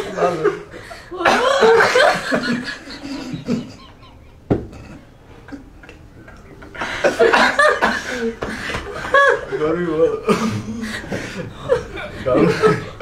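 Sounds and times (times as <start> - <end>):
people chuckling and murmuring: 0.0 - 13.0.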